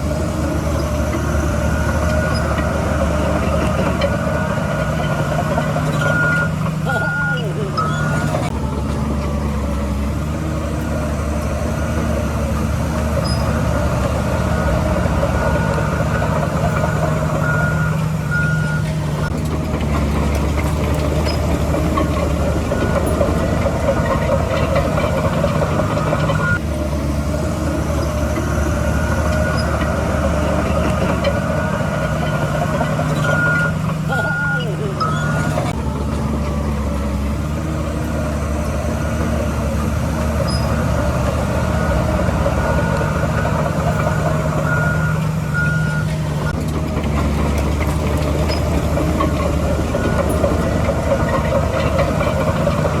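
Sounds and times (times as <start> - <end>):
reversing alarm beeping: 0.0 - 8.6, 10.8 - 19.4, 20.5 - 26.6, 27.6 - 35.8, 37.6 - 46.6, 47.5 - 53.0
heavy diesel machinery running: 0.0 - 53.0.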